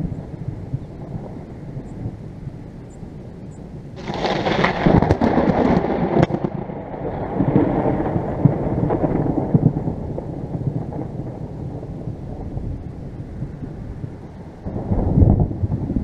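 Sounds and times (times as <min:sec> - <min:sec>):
thunder clap and rumble: 0:00.0 - 0:16.0.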